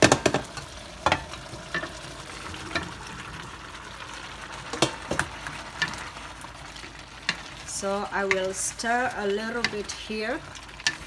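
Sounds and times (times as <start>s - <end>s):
stew sizzling in a frying pan: 0.0s - 11.0s.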